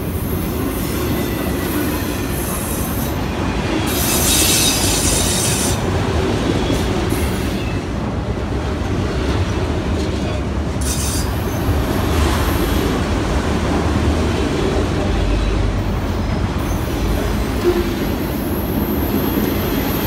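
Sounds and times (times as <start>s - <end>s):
wheels screeching on rail: 0.0s - 8.1s, 10.0s - 13.1s, 14.9s - 20.0s
freight cars rumbling on rail: 0.0s - 20.0s.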